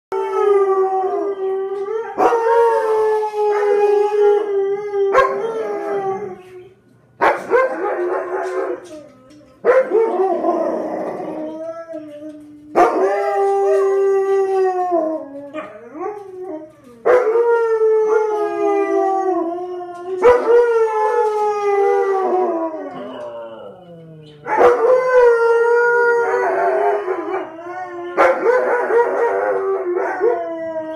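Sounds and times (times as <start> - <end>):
dog howling: 0.1 - 6.7, 7.4 - 30.9.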